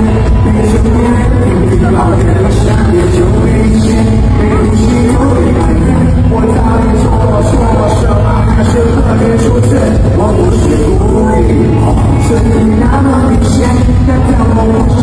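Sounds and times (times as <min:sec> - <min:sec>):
live pop song with heavy bass: 0:00.0 - 0:15.0
person singing: 0:00.0 - 0:15.0.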